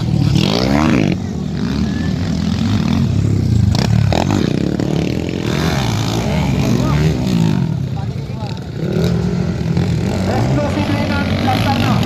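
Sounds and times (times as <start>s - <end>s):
motorcycle engine revving: 0.0s - 12.0s
motorcycle engines droning: 0.0s - 12.0s.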